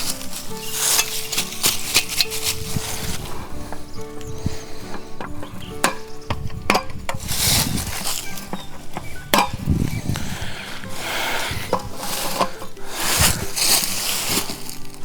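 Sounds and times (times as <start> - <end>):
metal cookware clinking: 0.0 - 15.0
scraping and rustling: 0.0 - 15.0.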